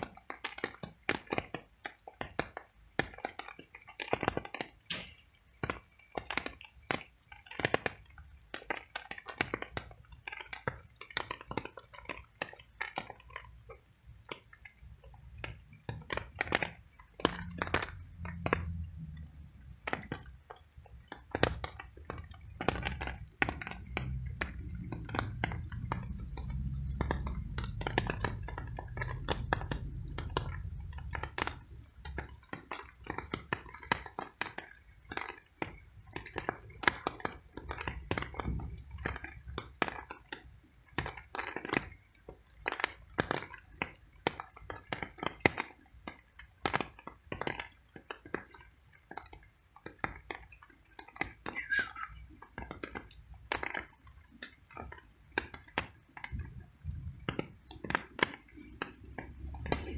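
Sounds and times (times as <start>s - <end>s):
cat chewing with clicks and smacks: 0.0s - 59.9s.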